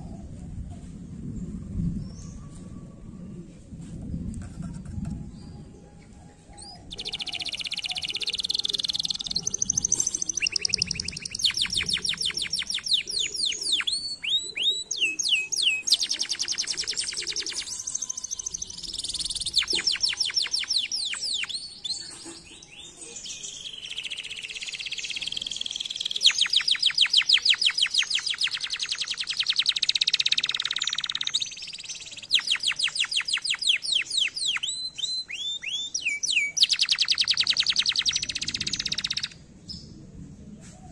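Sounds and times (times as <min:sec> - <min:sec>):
canary singing trills: 0:05.4 - 0:39.9.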